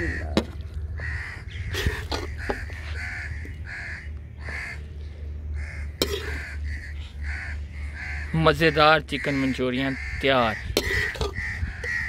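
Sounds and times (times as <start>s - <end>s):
bird calling repeatedly: 0.0s - 12.0s
low steady hum: 0.0s - 12.0s.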